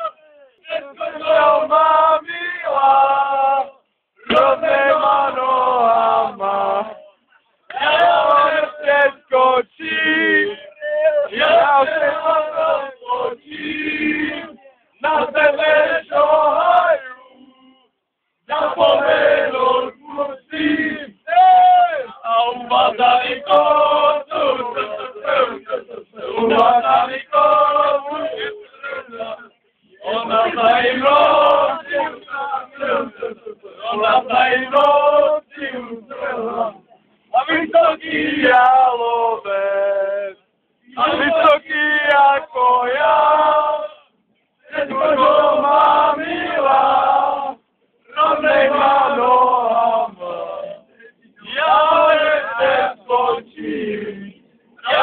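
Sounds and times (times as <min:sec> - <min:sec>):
men singing a chant: 0:00.0 - 0:07.0, 0:07.7 - 0:17.4, 0:18.5 - 0:36.8, 0:37.4 - 0:44.1, 0:44.7 - 0:55.0.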